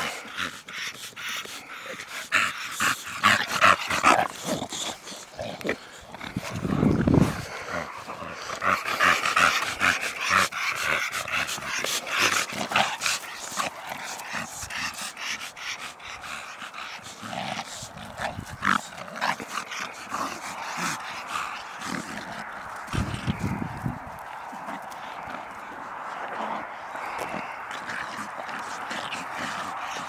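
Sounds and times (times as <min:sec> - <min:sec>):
dogs play-fighting noises: 0:00.0 - 0:30.0.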